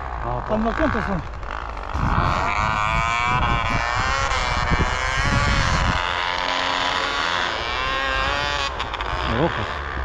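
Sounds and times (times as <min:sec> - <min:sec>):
dirt bike engine running: 0:00.0 - 0:10.0
wind rumbling on microphone: 0:00.0 - 0:10.0.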